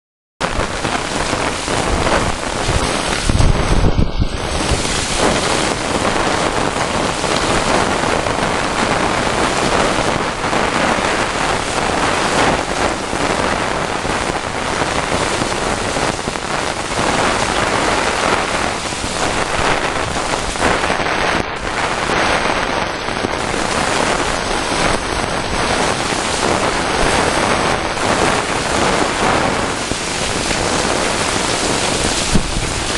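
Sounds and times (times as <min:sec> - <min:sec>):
strong wind on microphone: 0:00.4 - 0:32.9.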